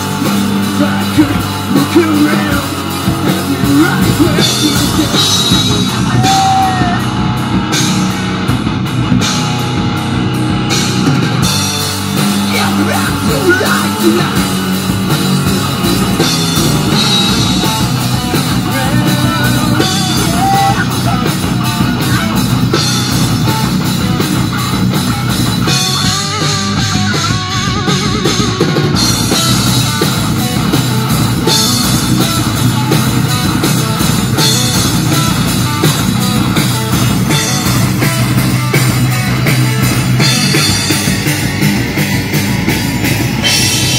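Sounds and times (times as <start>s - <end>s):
live metal band playing: 0.0s - 43.9s.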